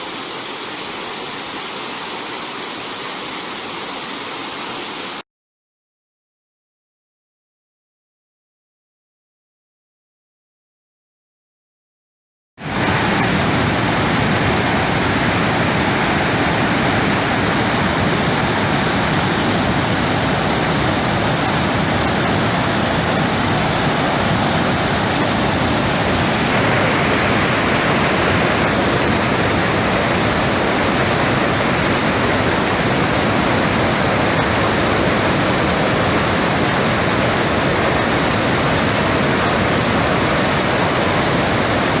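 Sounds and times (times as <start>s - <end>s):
waterfall rushing: 0.0s - 5.2s, 12.6s - 42.0s.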